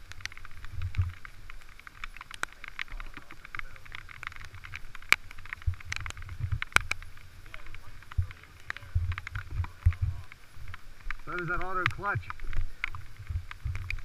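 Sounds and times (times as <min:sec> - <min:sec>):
raindrops tapping on camera housing: 0:00.0 - 0:14.0
steady low rumble: 0:00.0 - 0:14.0.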